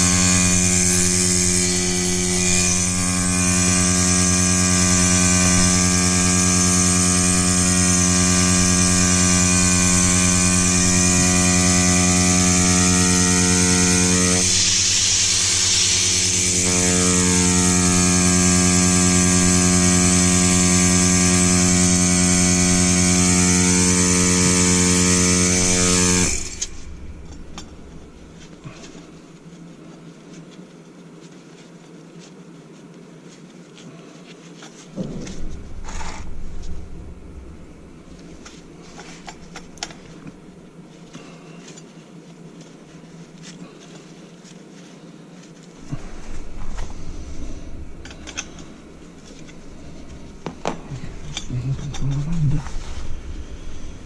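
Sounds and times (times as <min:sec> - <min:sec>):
vacuum pump humming and hissing: 0:00.0 - 0:30.9, 0:33.8 - 0:54.0.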